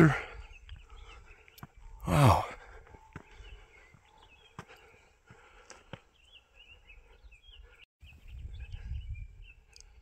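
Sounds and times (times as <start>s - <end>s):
faint songbirds chirping: 0.0s - 10.0s.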